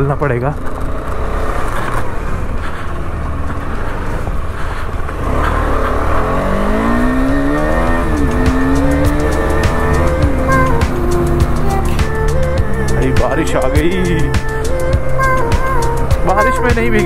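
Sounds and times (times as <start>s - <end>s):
motorcycle engine accelerating: 0.0s - 17.0s
wind and road rumble: 0.0s - 17.0s.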